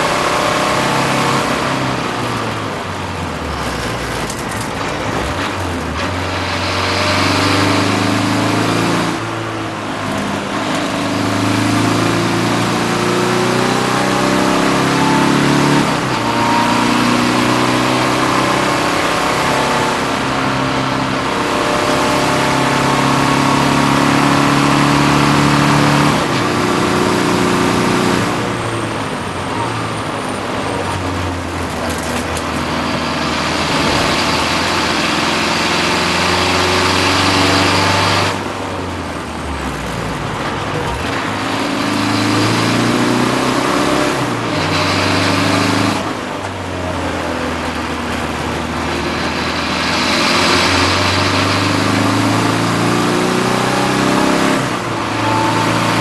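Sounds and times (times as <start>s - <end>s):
diesel engine accelerating: 0.0s - 56.0s
road and wind noise: 0.0s - 56.0s.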